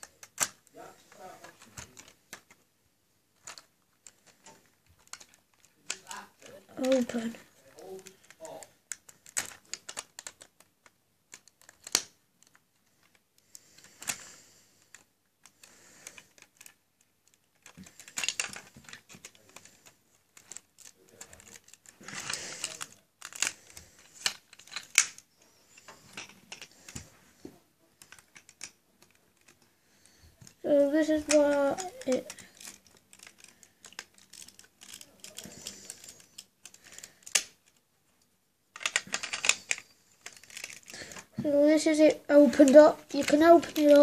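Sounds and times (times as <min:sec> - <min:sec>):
plastic toy bricks clicking: 0:00.0 - 0:02.6, 0:03.4 - 0:14.3, 0:14.9 - 0:25.3, 0:26.0 - 0:27.1, 0:28.0 - 0:29.6, 0:30.4 - 0:37.8, 0:38.7 - 0:41.5, 0:42.4 - 0:44.0.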